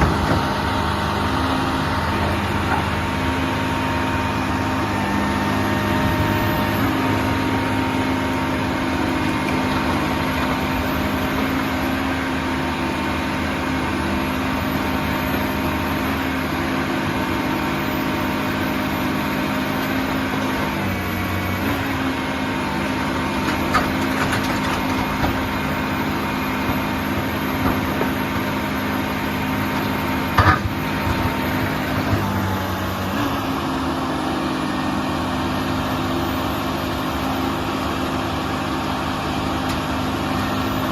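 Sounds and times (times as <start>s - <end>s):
engine and hydraulic pumps whining: 0.0s - 40.9s.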